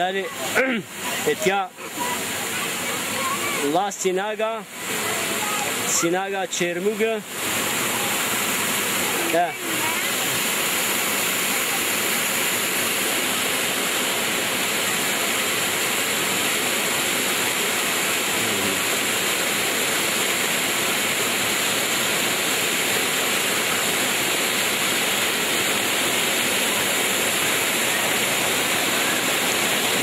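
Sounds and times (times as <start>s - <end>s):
small waterfall cascading over rocks: 0.0s - 30.0s.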